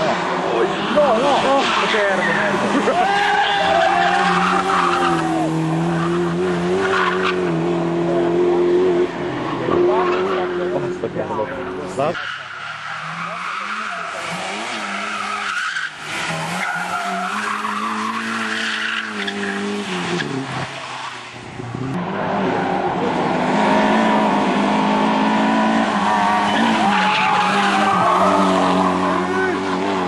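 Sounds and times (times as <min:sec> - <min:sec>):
rally car engines revving: 0:00.0 - 0:30.0.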